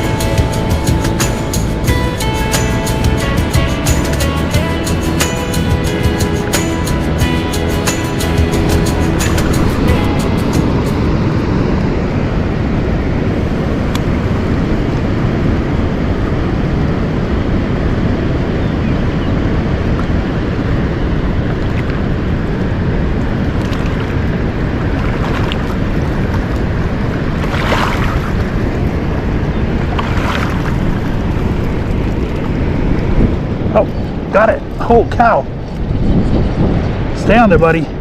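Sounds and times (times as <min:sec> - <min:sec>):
fast river water rushing: 0:00.0 - 0:36.0
wind on microphone: 0:00.0 - 0:38.0.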